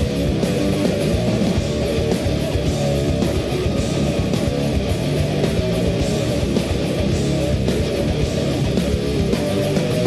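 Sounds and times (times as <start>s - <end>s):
live heavy rock music: 0.0s - 10.0s.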